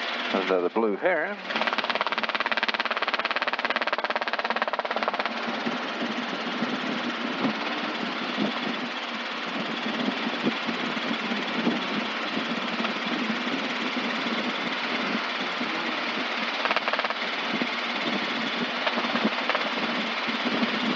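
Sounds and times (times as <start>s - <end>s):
helicopter engine and rotor drone: 0.0s - 20.9s.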